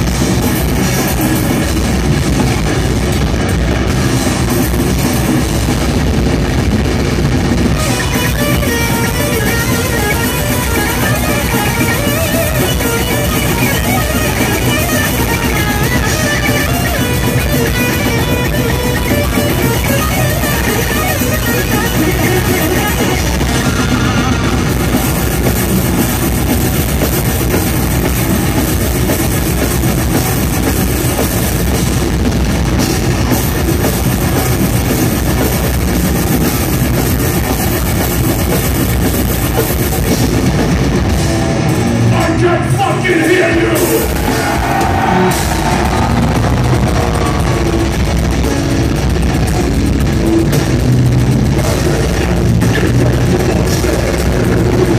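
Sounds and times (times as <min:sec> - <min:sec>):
death metal band playing live: 0:00.0 - 0:54.9
distorted electric guitars: 0:00.0 - 0:54.9
fast drums: 0:00.0 - 0:54.9.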